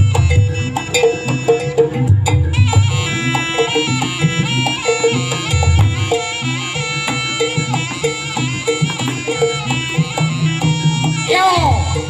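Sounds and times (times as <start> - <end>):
hand drum strokes: 0.0 - 11.3
shawm nasal wavering melody: 0.0 - 12.0.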